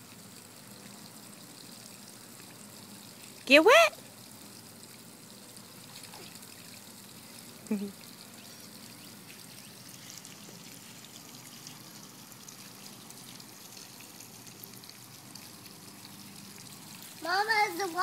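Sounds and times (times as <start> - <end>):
sprinkler water hissing: 0.0 - 18.0
water dripping: 0.0 - 18.0.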